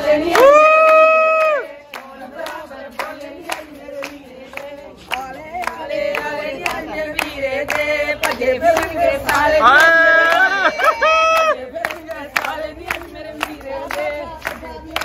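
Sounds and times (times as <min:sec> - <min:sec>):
women singing together: 0:00.0 - 0:15.0
hand clapping: 0:00.2 - 0:15.0.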